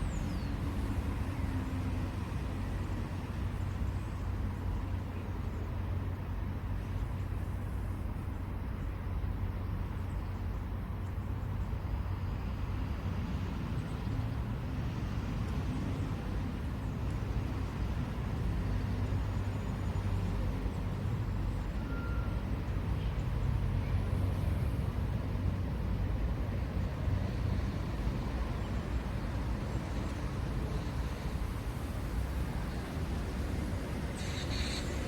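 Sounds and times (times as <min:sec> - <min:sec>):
distant road traffic rumble: 0:00.0 - 0:35.0.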